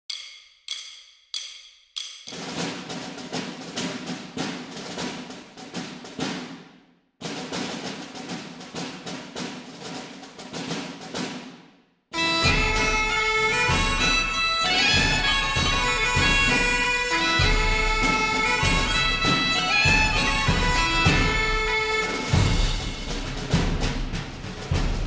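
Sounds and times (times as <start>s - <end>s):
drums and percussion: 0.0s - 25.0s.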